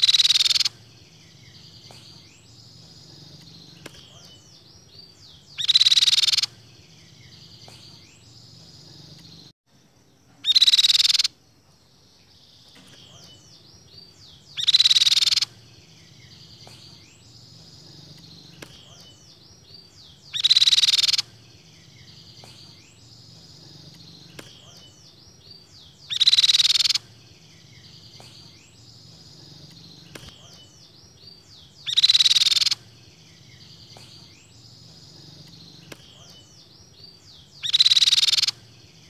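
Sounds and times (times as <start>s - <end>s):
bird calling with trilled notes: 0.0s - 9.5s, 10.4s - 11.4s, 12.2s - 39.0s
faint bird chirps: 0.0s - 39.0s.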